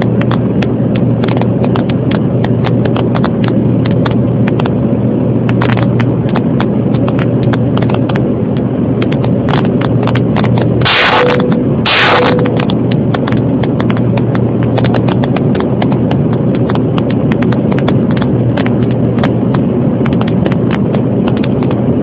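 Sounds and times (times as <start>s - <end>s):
crackling clicks: 0.0s - 4.8s, 5.4s - 22.0s
jet engine and airflow hum: 0.0s - 22.0s.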